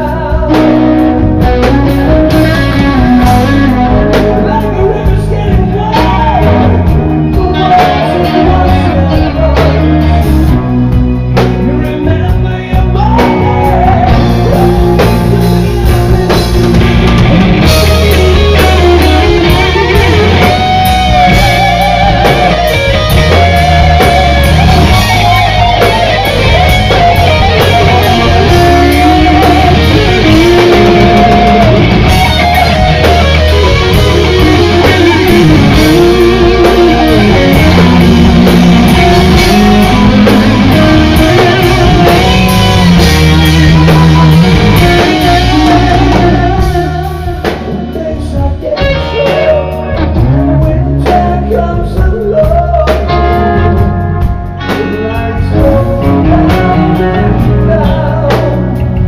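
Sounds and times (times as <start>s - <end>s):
bass: 0.0s - 59.0s
drums: 0.0s - 59.0s
electric guitar: 0.0s - 59.0s
person singing: 0.0s - 59.0s.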